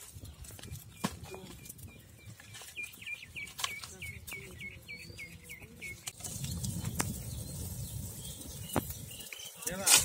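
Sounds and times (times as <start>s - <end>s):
fire burning with crackles: 0.0s - 4.9s, 5.7s - 10.0s.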